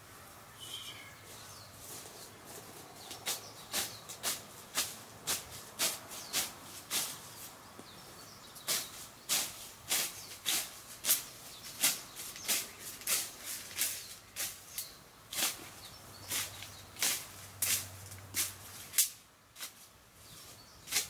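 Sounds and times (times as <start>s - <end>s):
sickle swishing through grass: 0.7s - 7.6s, 8.6s - 21.0s.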